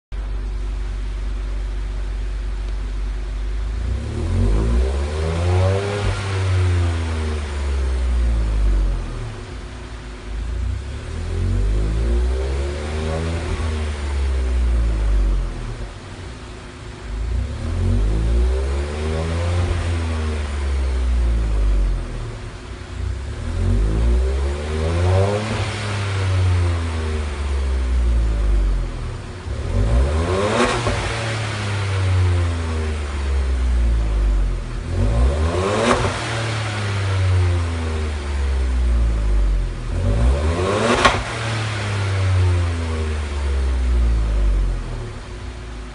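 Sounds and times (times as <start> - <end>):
car engine revving: 0.2 - 45.9.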